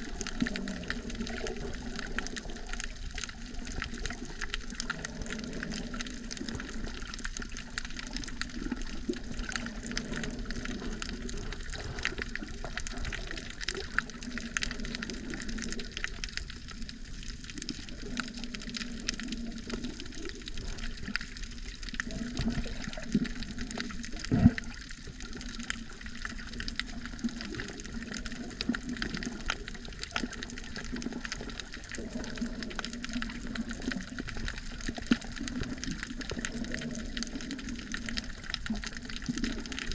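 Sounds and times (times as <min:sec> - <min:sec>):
faint underwater clicks: 0:00.0 - 0:39.9
muffled underwater water rush: 0:00.0 - 0:39.9.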